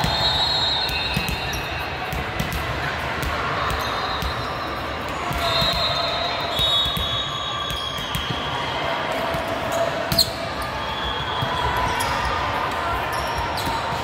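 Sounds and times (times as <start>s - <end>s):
murmur of voices in gymnasium: 0.0s - 14.0s.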